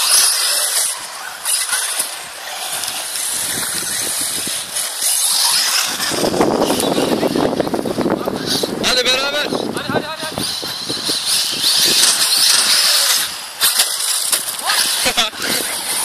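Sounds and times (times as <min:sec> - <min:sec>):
electric rc car hiss: 0:00.0 - 0:16.0.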